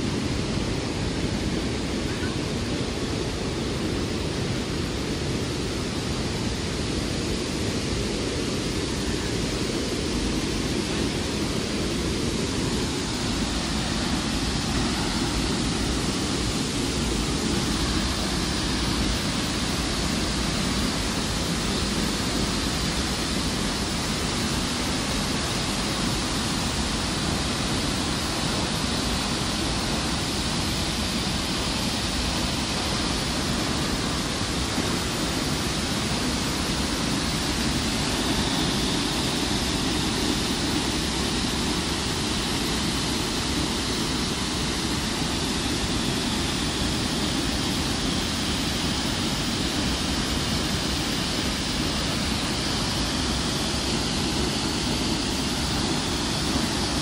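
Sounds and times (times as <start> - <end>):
waterfall rushing: 8.6 - 57.0.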